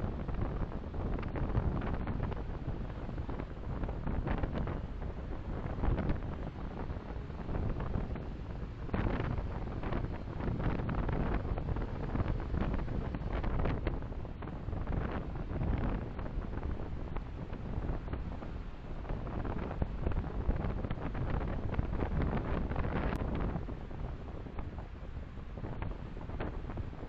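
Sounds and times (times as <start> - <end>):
wind noise: 0.0 - 27.0.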